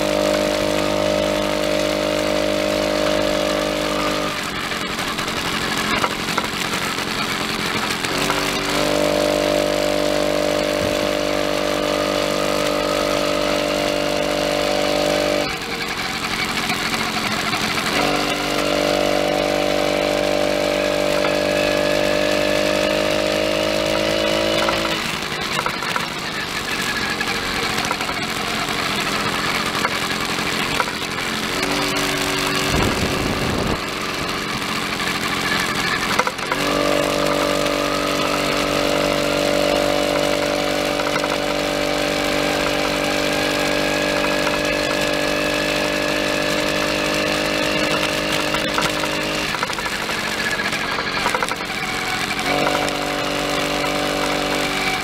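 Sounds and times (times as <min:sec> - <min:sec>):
motorized bicycle engine running: 0:00.0 - 0:55.0.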